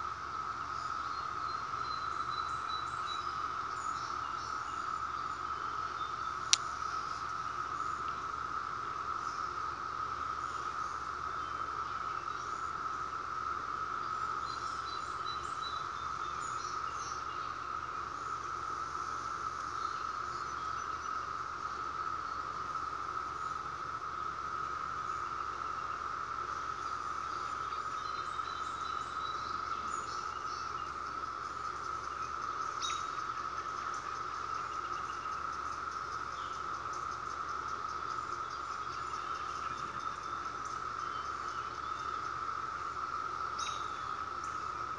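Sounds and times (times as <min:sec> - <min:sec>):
cicadas whirring: 0:00.0 - 0:44.9.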